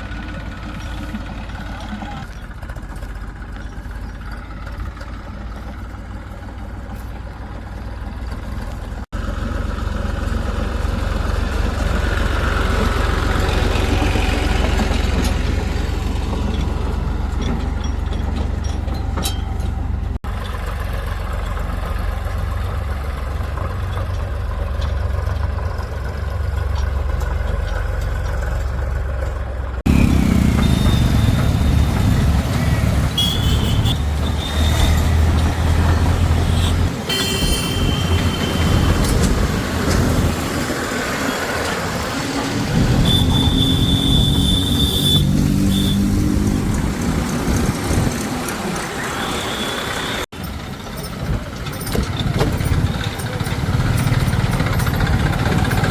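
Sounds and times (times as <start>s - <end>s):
diesel engines rumbling: 0.0s - 55.9s.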